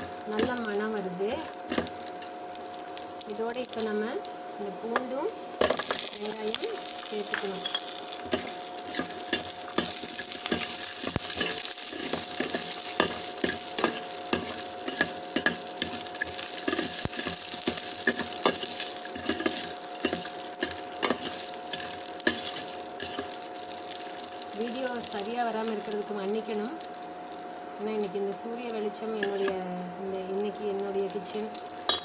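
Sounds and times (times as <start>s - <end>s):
stirring clicks and scrapes: 0.0s - 4.0s, 5.6s - 26.6s, 28.7s - 32.0s
spices sizzling in a pan: 0.0s - 32.0s.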